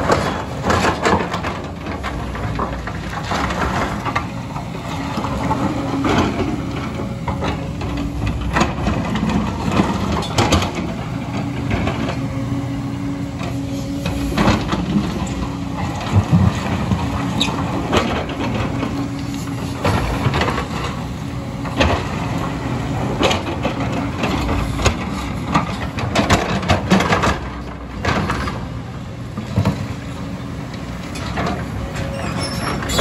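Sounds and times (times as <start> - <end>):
diesel engine running under load: 0.0 - 33.0.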